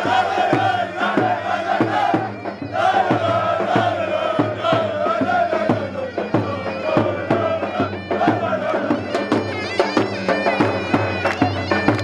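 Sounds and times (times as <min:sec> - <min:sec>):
bass drum beats: 0:00.0 - 0:12.0
shrill reed pipe melody: 0:00.0 - 0:12.0.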